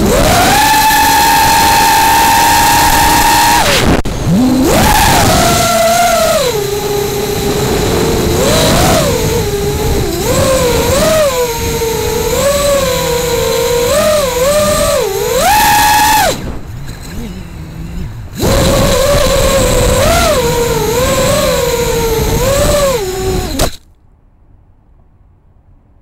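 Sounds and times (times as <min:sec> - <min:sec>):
drone motors whining: 0:00.0 - 0:23.9.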